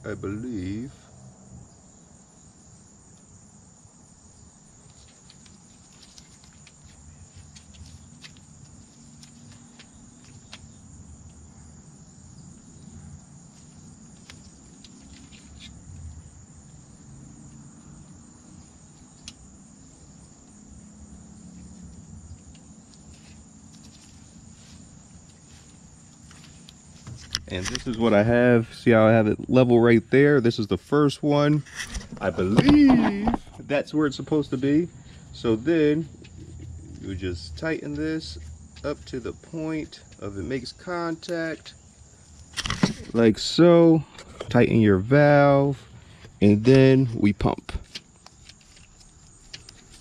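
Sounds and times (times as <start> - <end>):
high-pitched insect trill: 0.0 - 50.0.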